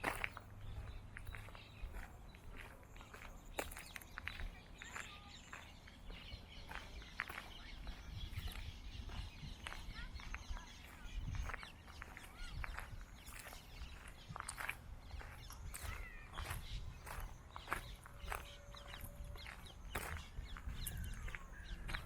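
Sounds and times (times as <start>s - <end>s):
birds chirping and calling: 0.0s - 22.0s
footsteps: 0.0s - 22.0s.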